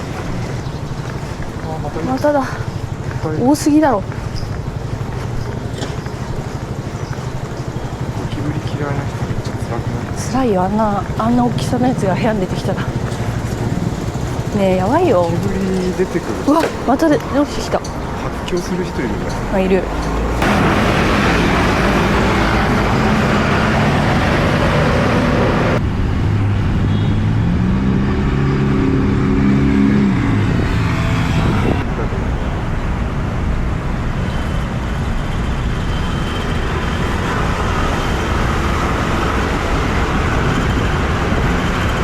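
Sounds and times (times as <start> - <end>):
road traffic noise: 0.0 - 42.0
vehicle engine accelerating: 0.0 - 42.0.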